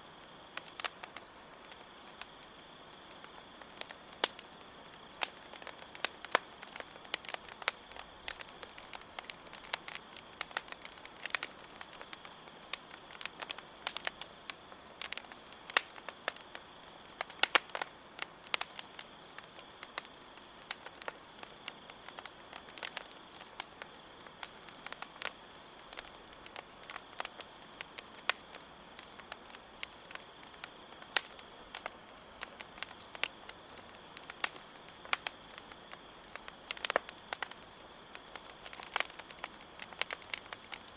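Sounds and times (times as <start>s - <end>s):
campfire crackling: 0.0s - 40.9s
crickets chirring: 0.0s - 40.9s
wood popping: 3.1s - 40.9s.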